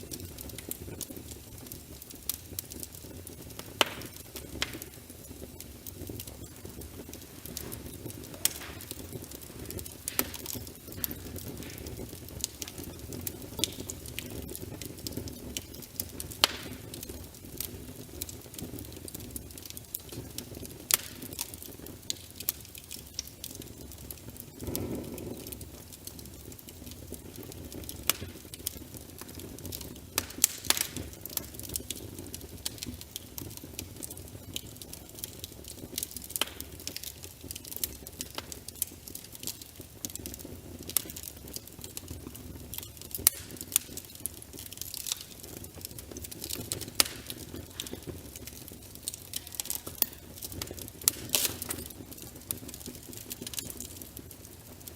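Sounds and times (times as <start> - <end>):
fire popping and snapping: 0.0 - 54.9
wood fire rumbling: 0.0 - 54.9.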